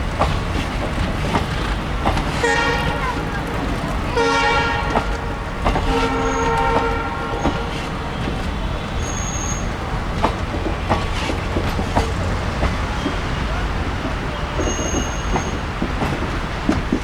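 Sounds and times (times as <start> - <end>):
train rumbling past: 0.0 - 17.0
wheels clacking on rail joints: 0.0 - 17.0
locomotive horn blast: 1.8 - 15.6.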